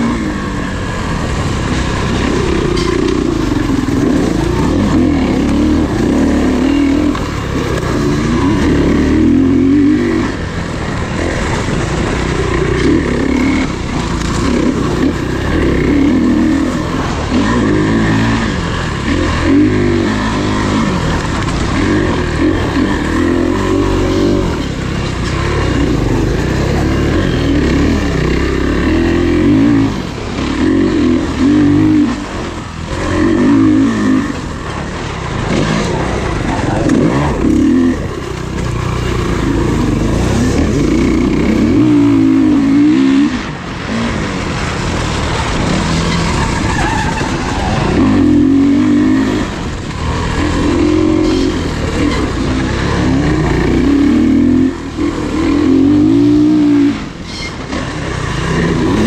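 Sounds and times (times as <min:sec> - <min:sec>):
off-road engines revving: 0:00.0 - 0:59.0.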